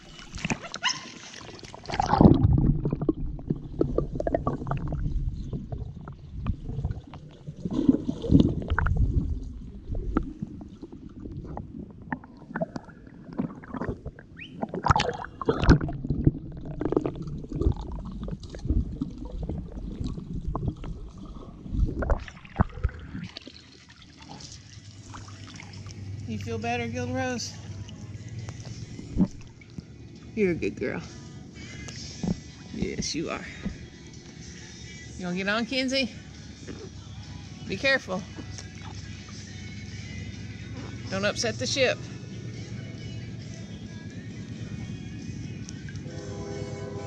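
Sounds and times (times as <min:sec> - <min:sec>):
muffled water sloshing and gurgling: 0:00.0 - 0:47.0.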